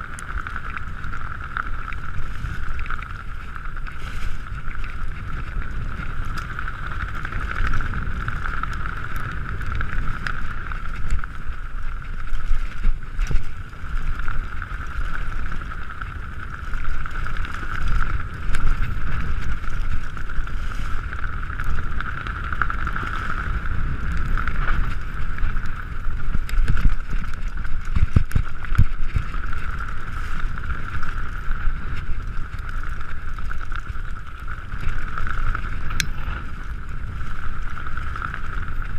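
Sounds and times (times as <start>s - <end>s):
tyres rumbling on dirt trail: 0.0s - 38.9s
wind buffeting microphone: 0.0s - 38.9s.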